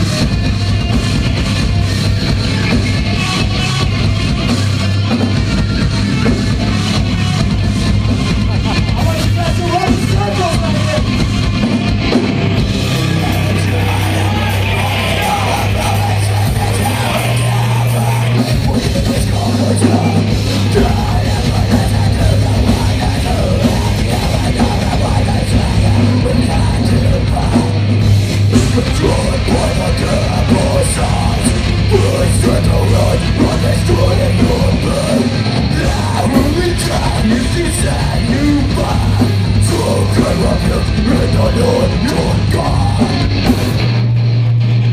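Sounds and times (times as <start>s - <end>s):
bass guitar: 0.0s - 44.9s
distorted guitars: 0.0s - 44.9s
drums: 0.0s - 44.9s.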